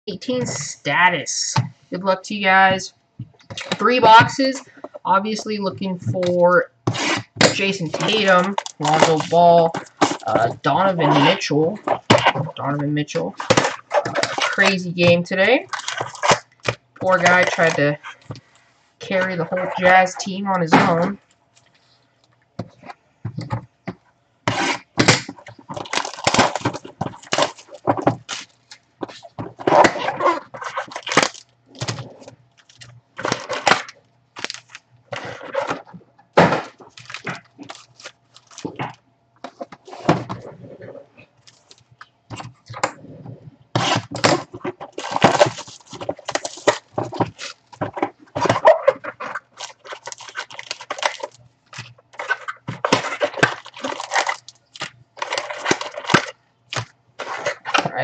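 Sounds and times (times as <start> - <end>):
plastic wrapping crinkling: 1.8 - 23.6, 24.5 - 58.0.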